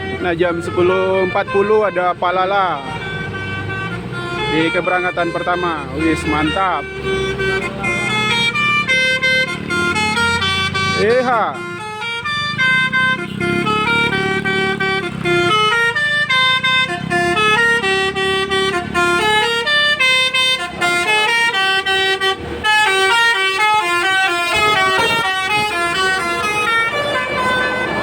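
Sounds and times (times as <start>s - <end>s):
bus engine running: 0.0s - 28.0s
multi-tone bus horn melody: 0.0s - 28.0s.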